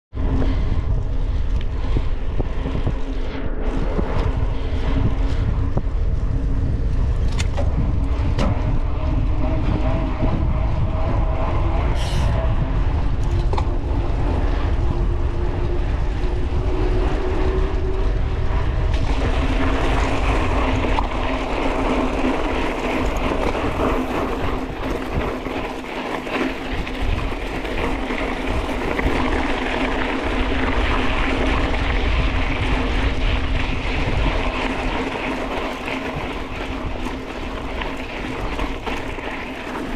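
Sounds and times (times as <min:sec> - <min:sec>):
bike tyres humming on asphalt: 0:00.1 - 0:39.9
wind buffeting microphone: 0:00.1 - 0:39.9.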